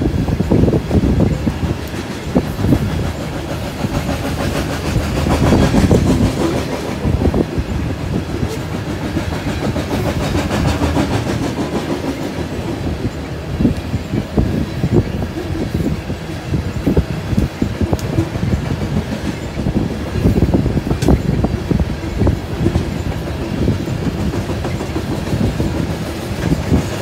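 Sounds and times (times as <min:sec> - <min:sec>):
train wheels rumbling on rail: 0:00.0 - 0:27.0
wheels clicking over rail joints: 0:00.0 - 0:27.0.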